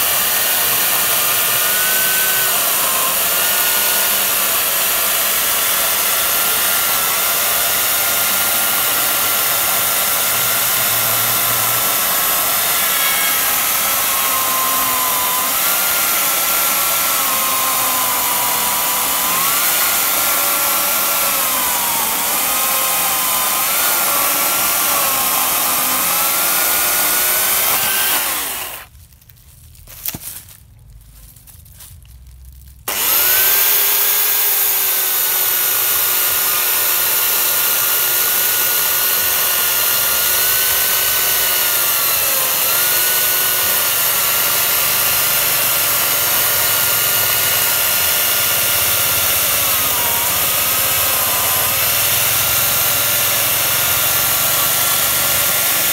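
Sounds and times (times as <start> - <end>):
electric chainsaw cutting log: 0.0 - 28.9, 32.9 - 55.9.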